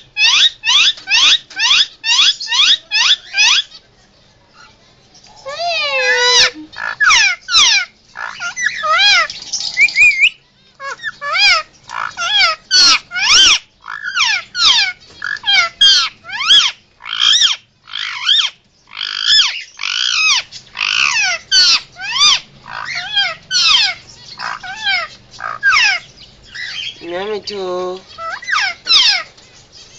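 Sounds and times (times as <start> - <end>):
parakeet shrill screeching calls: 0.0 - 3.8, 5.5 - 27.1, 28.0 - 29.9.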